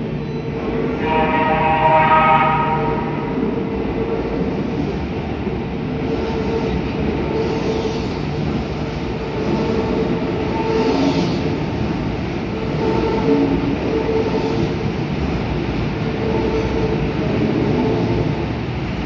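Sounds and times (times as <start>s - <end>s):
electric train rumbling in station: 0.0s - 19.0s.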